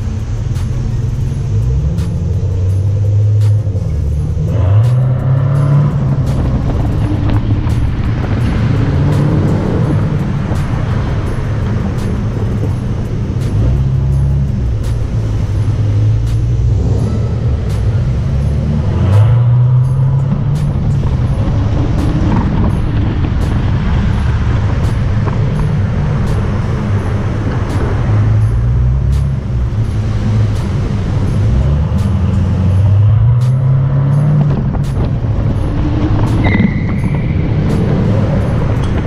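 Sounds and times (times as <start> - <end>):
car engines and exhausts droning: 0.0 - 39.0.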